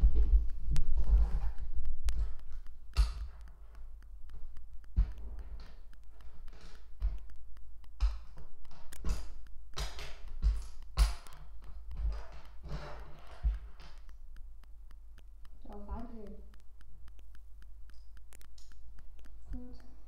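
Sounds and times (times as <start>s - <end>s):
plastic pieces clicking and tapping: 1.4s - 20.0s.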